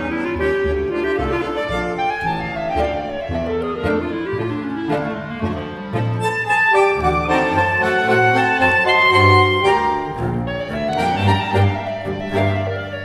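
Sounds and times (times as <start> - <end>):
bandoneon playing: 0.0 - 13.0
bowed double bass: 0.0 - 13.0
clarinets playing melody: 0.0 - 13.0.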